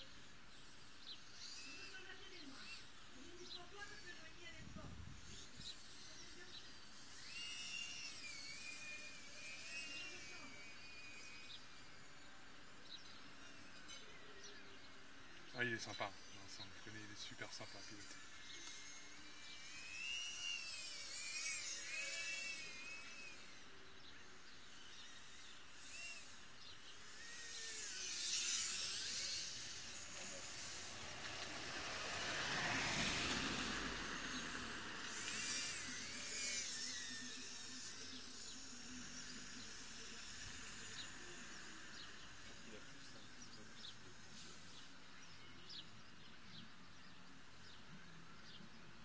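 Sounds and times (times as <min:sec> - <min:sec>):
quadcopter motors whining: 0:00.0 - 0:49.0.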